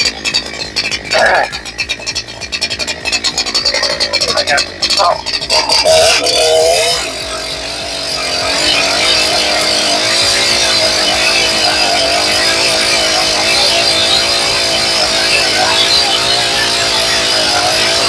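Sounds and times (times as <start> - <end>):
chainsaw cutting log: 0.0 - 18.0.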